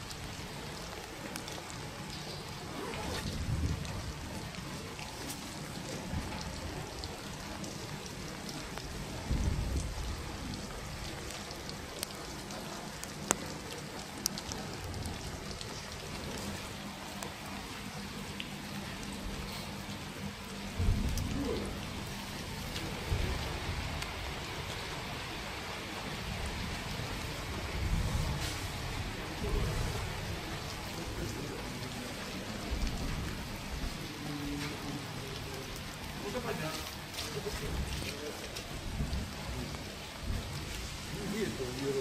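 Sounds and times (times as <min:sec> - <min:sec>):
steady outdoor hiss: 0:00.0 - 0:42.0.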